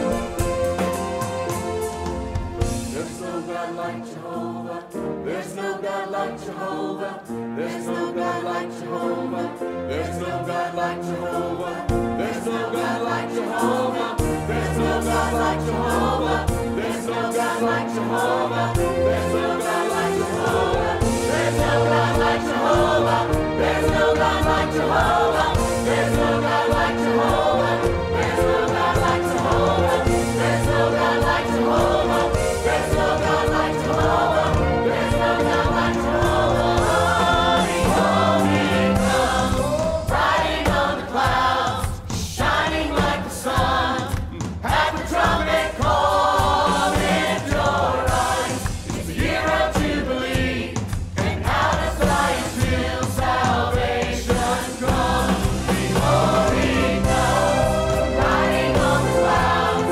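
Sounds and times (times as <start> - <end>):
church choir singing: 0.0 - 59.9
instrumental accompaniment: 0.0 - 59.9.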